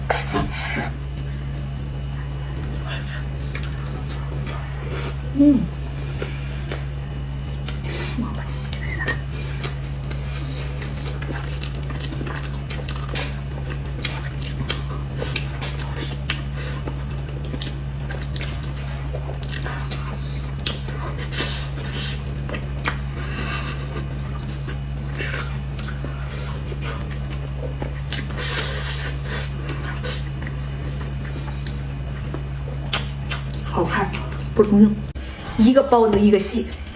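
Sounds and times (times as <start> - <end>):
chewing soft cake: 0.0 - 35.2
steady low hum: 0.0 - 36.9.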